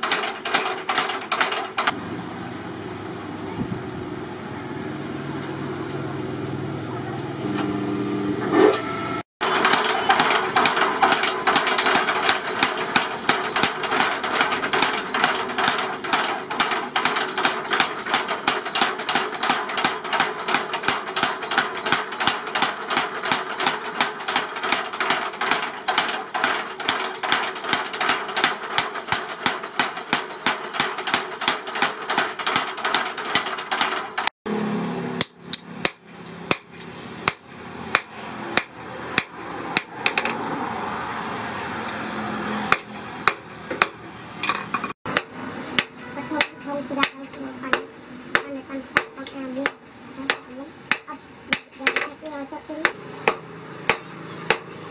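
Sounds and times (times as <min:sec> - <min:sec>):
power hammer striking steel: 0:00.0 - 0:02.0, 0:09.4 - 0:40.4, 0:42.6 - 0:52.2, 0:52.8 - 0:54.8.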